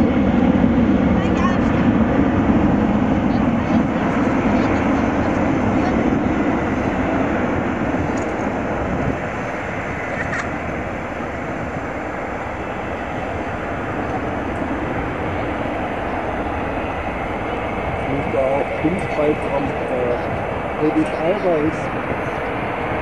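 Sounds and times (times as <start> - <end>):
jet engine rumble and hiss: 0.0 - 23.0.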